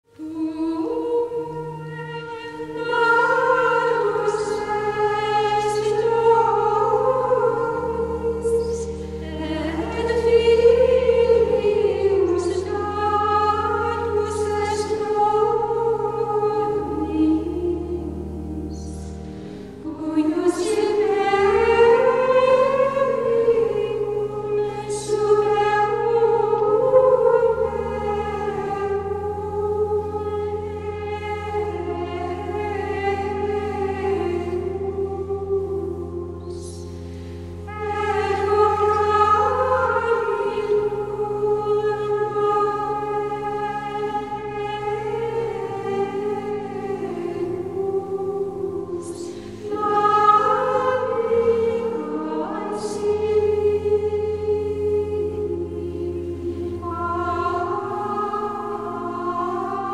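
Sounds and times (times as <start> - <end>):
slow vocal music: 0.0 - 59.9.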